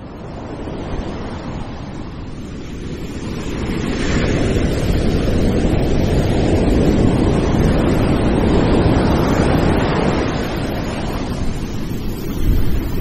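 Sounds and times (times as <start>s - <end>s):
wind: 0.0s - 13.0s
ocean surf breaking: 0.2s - 13.0s.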